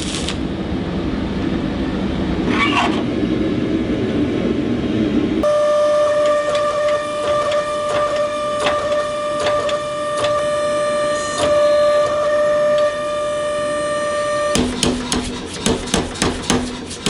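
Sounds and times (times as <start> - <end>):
machine high whine: 0.0 - 15.6.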